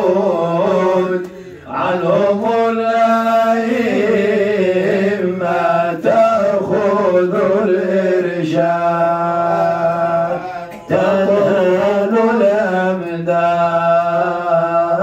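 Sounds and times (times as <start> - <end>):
man chanting devotional verse: 0.0 - 15.0.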